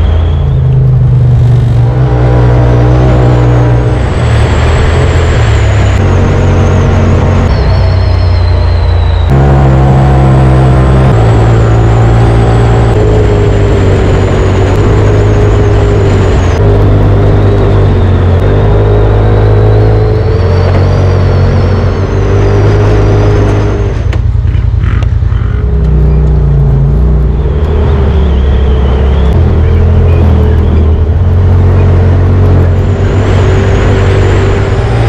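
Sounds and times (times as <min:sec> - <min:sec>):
engine running hard: 0:00.0 - 0:35.0.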